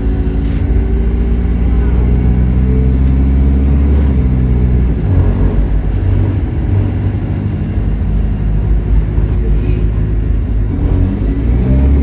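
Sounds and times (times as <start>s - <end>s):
bus engine running under load: 0.0s - 12.0s.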